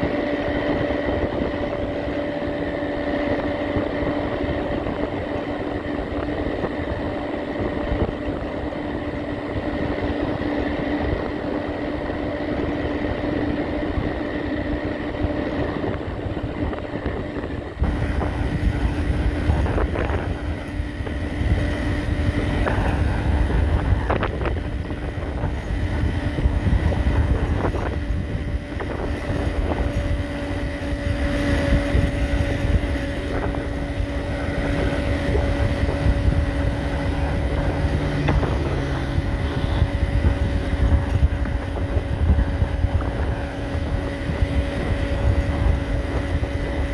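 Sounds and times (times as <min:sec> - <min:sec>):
electric bike motor whine: 0:00.0 - 0:46.9
low rumble: 0:00.0 - 0:46.9.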